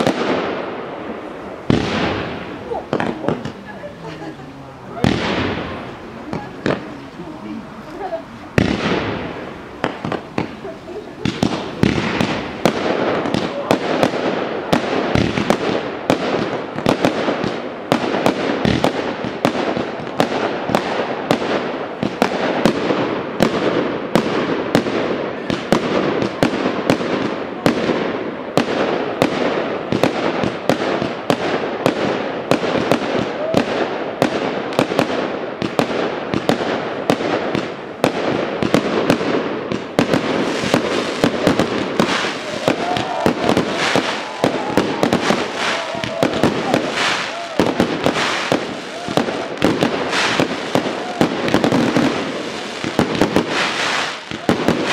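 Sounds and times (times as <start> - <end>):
fireworks bursting bangs: 0.0 - 54.9
fireworks crackle: 0.0 - 54.9.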